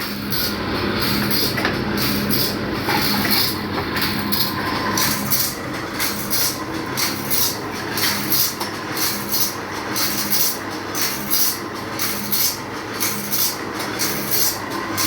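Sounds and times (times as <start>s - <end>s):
steady low hum: 0.0s - 15.0s
file rasping on saw teeth: 1.1s - 14.6s.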